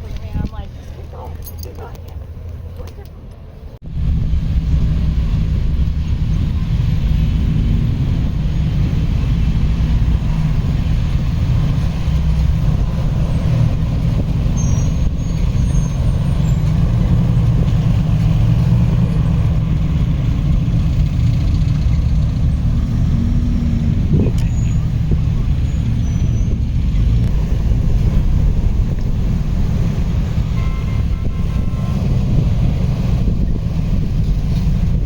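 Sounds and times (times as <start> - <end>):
car engine and road rumble: 0.0 - 35.0
wind buffeting microphone: 0.0 - 35.0.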